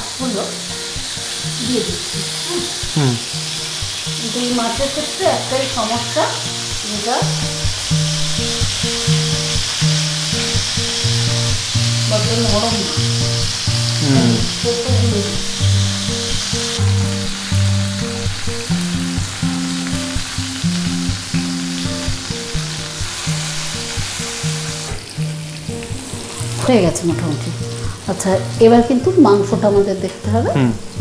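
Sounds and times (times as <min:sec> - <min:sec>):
background music: 0:00.0 - 0:31.0
food sizzling in hot oil: 0:00.0 - 0:31.0.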